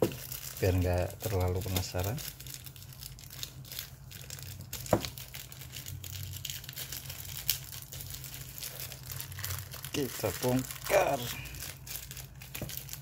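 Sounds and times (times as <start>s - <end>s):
plastic packaging crinkling: 0.0s - 13.0s
plastic packaging snapping: 0.0s - 13.0s.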